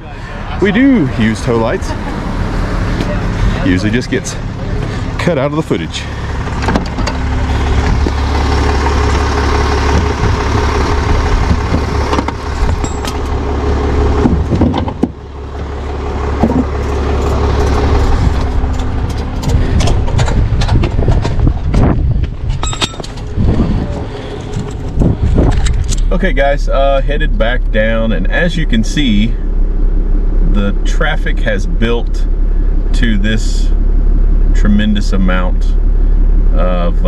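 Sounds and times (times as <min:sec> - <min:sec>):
road noise: 0:00.0 - 0:37.0
vehicle engine running: 0:00.0 - 0:37.0.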